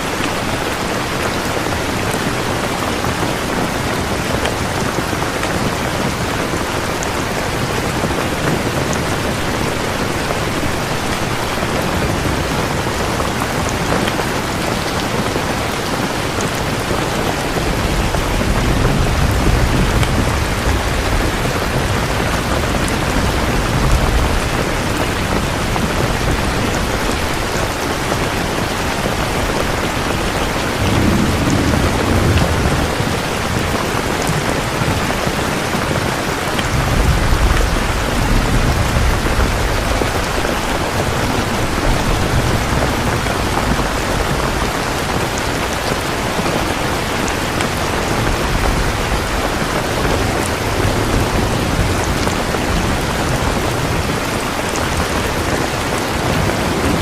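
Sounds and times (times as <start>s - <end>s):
heavy rain: 0.0s - 57.0s
low thunder rumbling: 1.8s - 57.0s.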